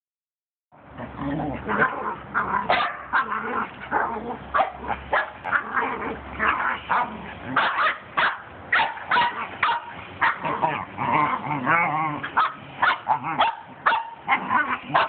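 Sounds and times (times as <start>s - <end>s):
dogs barking and yipping: 1.6s - 15.0s.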